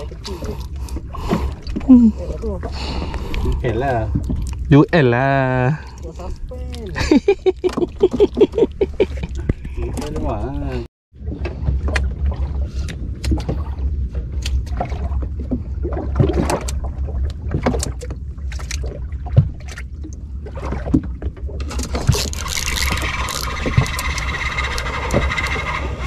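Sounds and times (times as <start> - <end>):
wind and water rumble: 0.0 - 26.0.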